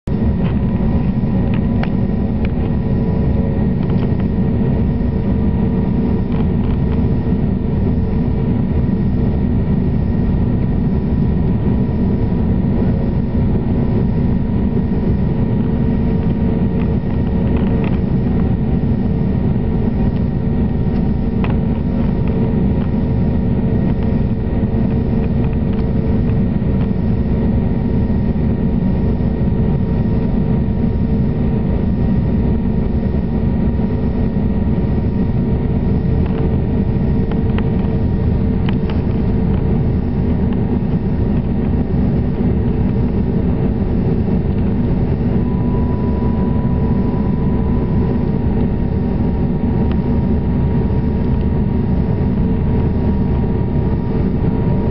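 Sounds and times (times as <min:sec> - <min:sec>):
aircraft cabin engine rumble: 0:00.0 - 0:54.9
faint steady hums: 0:00.1 - 0:54.9.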